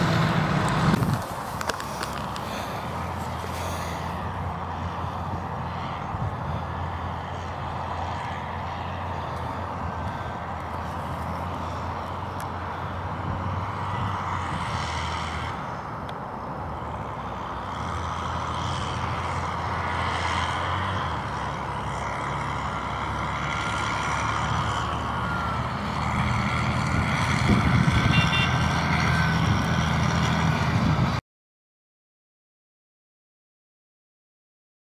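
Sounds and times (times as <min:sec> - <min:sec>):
tractor engine running: 0:00.0 - 0:31.2.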